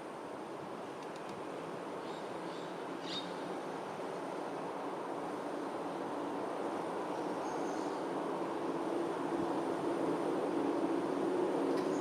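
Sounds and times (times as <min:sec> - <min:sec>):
outdoor background hum: 0:00.0 - 0:12.0.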